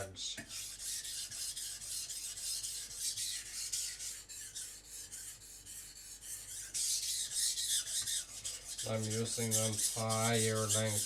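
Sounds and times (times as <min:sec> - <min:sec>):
knife scraping on whetstone: 0:00.4 - 0:11.0.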